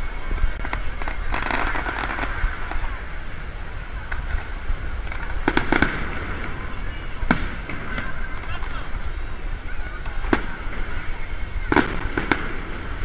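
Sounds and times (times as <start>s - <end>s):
fireworks bangs and crackles: 0.0s - 13.0s
steady low rumble: 0.0s - 13.0s.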